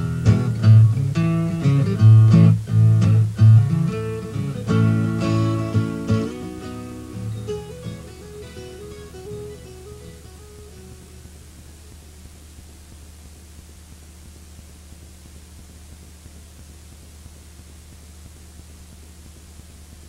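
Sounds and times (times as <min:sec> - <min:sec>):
background hiss: 0:00.0 - 0:20.0
low electrical hum: 0:00.0 - 0:20.0.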